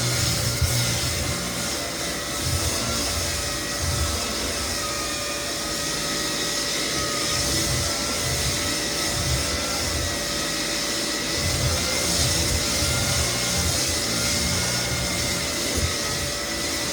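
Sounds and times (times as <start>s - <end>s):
floor sander whining: 0.0s - 16.9s.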